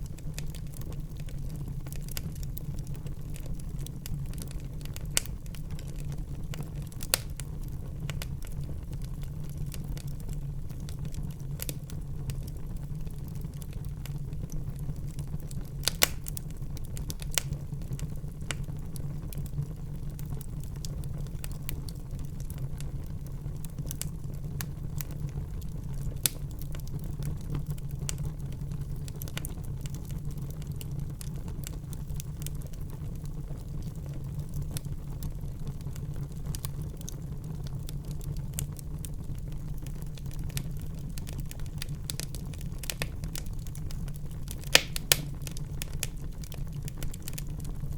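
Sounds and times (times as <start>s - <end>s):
fire crackling in a fireplace: 0.0s - 47.9s.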